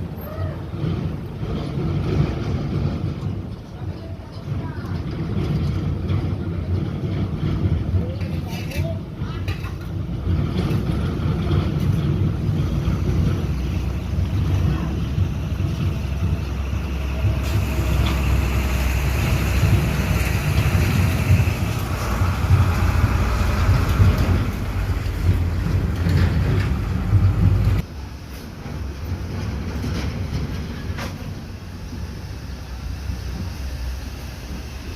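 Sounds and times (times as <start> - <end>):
dump truck engine rumbling: 0.0 - 34.9.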